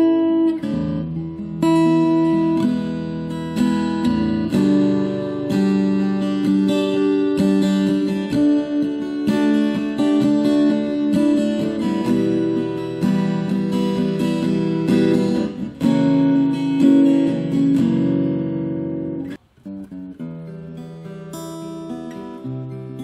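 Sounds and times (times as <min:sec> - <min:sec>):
acoustic guitar fingerstyle: 0:00.0 - 0:23.0.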